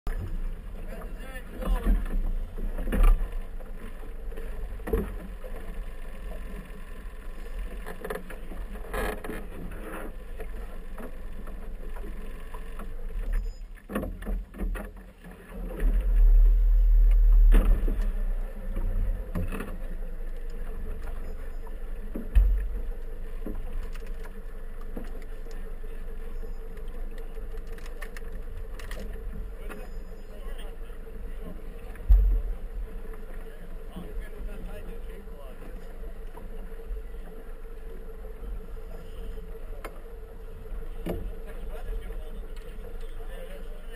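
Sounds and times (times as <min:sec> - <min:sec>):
motorboat engine humming: 0:00.0 - 0:43.9
low rumble: 0:00.1 - 0:13.8, 0:15.3 - 0:43.9.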